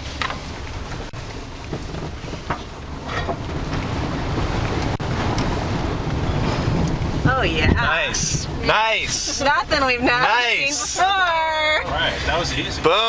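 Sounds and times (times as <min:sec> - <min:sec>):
vehicle engine: 0:00.0 - 0:13.0
water splashing against vehicle: 0:00.0 - 0:13.0.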